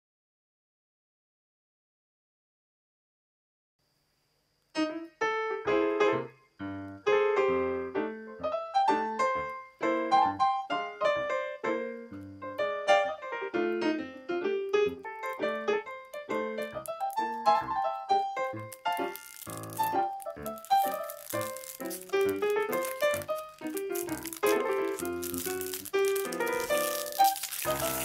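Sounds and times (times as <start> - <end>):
piano music: 4.8 - 28.0.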